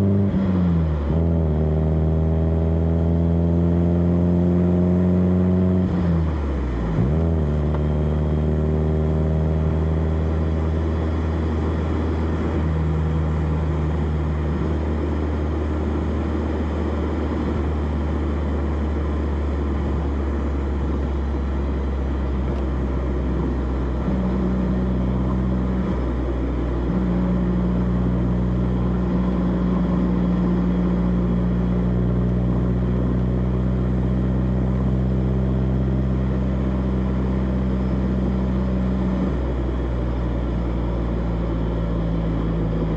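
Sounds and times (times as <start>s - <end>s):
car exhaust engine note: 0.0s - 42.9s
tyre and road noise: 0.0s - 42.9s.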